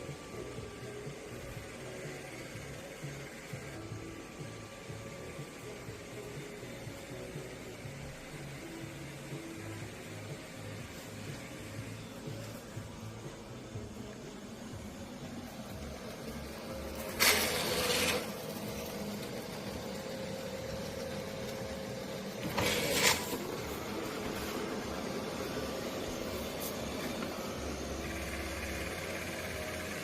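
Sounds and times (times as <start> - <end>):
vacuum cleaner motor hum: 0.0 - 30.0.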